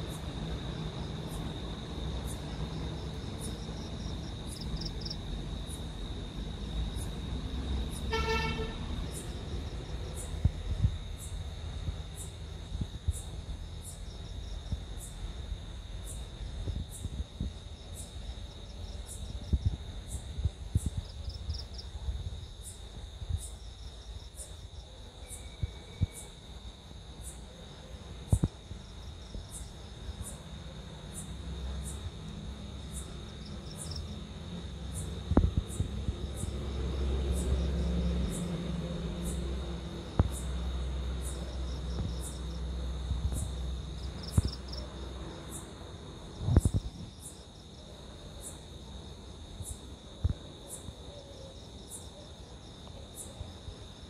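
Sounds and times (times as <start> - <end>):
crickets trilling: 0.0 - 54.0
high insect chirps: 0.0 - 54.0.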